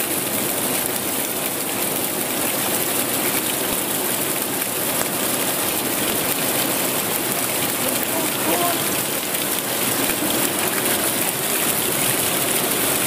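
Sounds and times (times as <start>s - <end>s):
river flowing: 0.0s - 13.0s
water running down rock: 0.0s - 13.0s.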